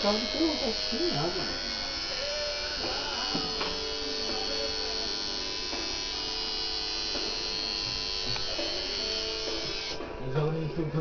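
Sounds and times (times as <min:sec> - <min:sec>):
tattoo machine buzzing: 0:00.0 - 0:10.1.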